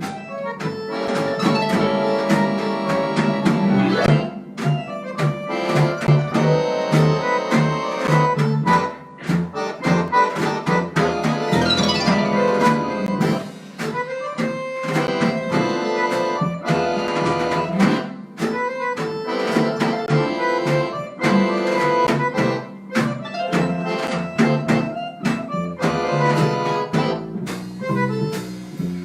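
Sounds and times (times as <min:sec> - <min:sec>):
live jazz band playing: 0:00.0 - 0:29.0.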